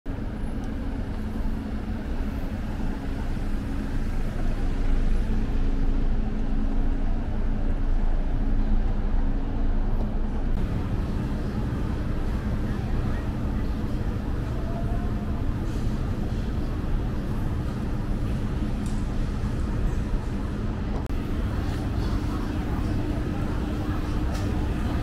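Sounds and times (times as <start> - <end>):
low rumble of traffic: 0.1 - 25.0
vehicle engines humming: 0.1 - 25.0.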